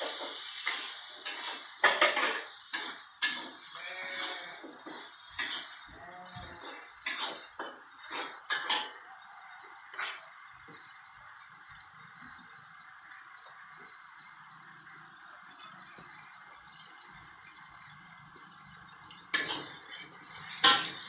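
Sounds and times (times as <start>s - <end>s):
paste sizzling in oil in a wok: 0.0s - 21.0s.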